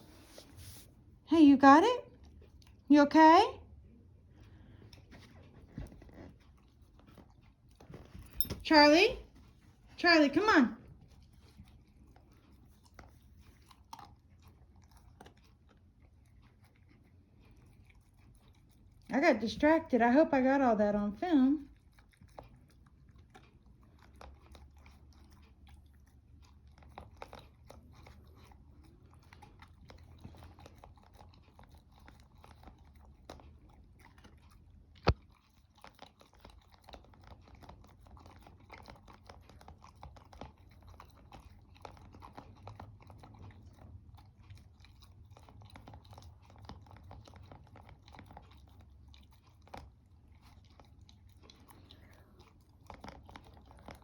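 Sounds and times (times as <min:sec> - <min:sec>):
dog chewing and crunching food: 0:00.0 - 0:54.0.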